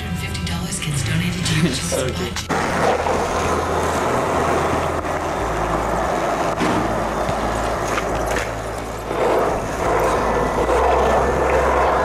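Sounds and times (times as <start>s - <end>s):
skateboard wheels rolling: 1.9s - 12.0s.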